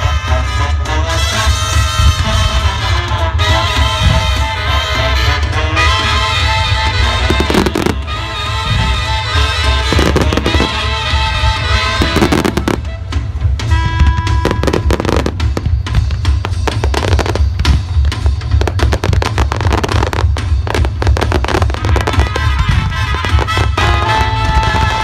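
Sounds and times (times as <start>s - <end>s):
fireworks bangs and crackles: 0.0s - 25.0s
music playing: 0.0s - 25.0s
low booming: 1.4s - 25.0s.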